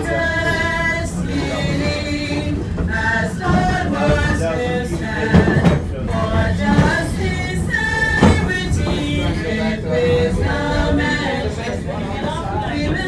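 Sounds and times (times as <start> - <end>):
small choir singing: 0.0 - 13.0.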